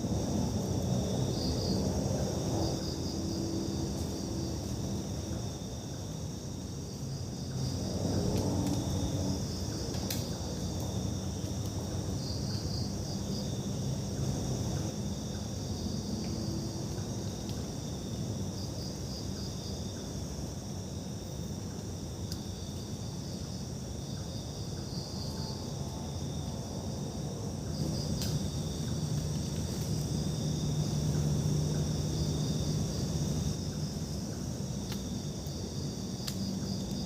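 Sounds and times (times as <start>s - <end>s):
insects chirping: 0.0s - 37.0s.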